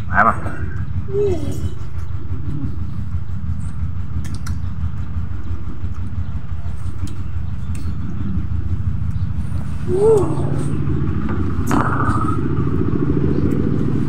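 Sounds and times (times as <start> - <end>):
low engine-like drone: 0.0 - 14.0.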